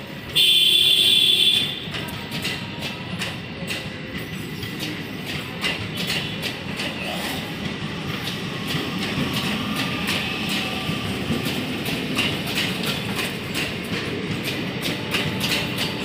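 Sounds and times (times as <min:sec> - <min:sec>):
train rumble: 0:00.0 - 0:16.0
train wheels clattering over rail joints: 0:01.1 - 0:16.0.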